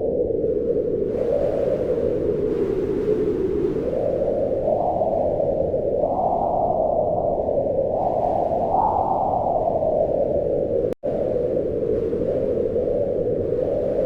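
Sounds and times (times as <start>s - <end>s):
wind blowing: 0.0s - 14.0s.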